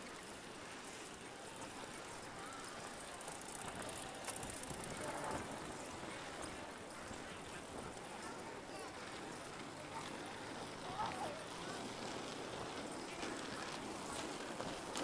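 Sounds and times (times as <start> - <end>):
bicycle rolling on pavement: 0.0 - 15.0.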